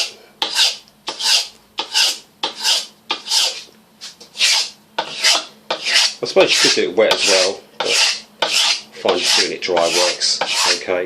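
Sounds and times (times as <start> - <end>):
knife scraping abrasive paper: 0.4 - 10.8.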